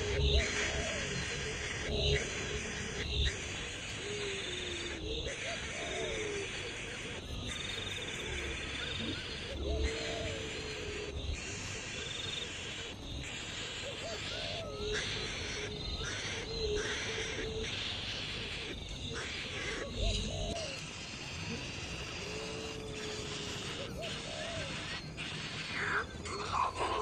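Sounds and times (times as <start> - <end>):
bird hooting call: 0.0 - 27.0
steady hiss: 0.0 - 27.0.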